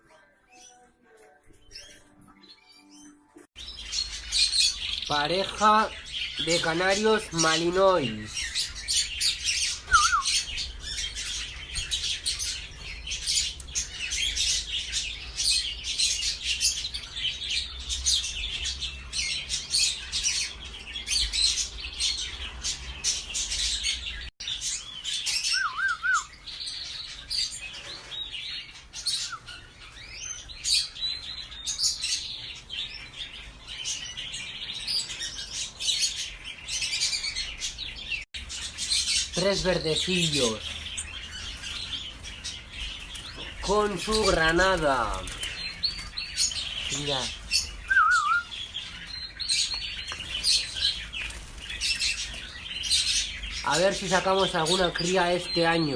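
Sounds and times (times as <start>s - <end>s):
cage birds chirping and twittering: 0.0s - 55.9s.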